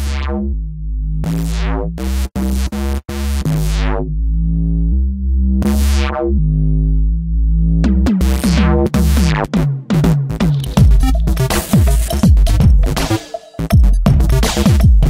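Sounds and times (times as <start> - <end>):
heavy bass line: 0.0 - 15.0
synthesizer chords: 0.0 - 15.0.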